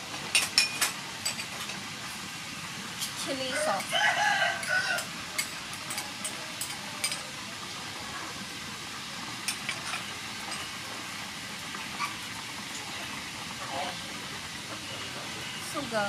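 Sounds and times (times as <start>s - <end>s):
sauce sizzling in a frying pan: 0.0s - 16.0s.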